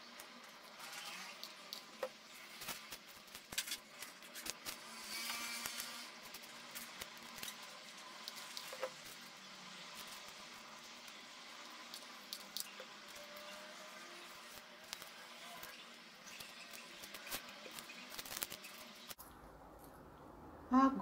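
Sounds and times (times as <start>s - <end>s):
corn husks rustling and crinkling: 0.0s - 19.2s.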